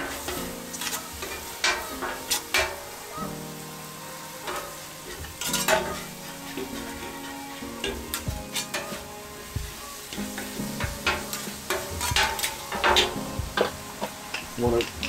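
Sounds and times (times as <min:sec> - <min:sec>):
utensils clinking on griddle: 0:00.0 - 0:03.7, 0:04.4 - 0:15.0
metal spatula scraping griddle: 0:00.0 - 0:15.0
scallops sizzling on a griddle: 0:00.0 - 0:15.0.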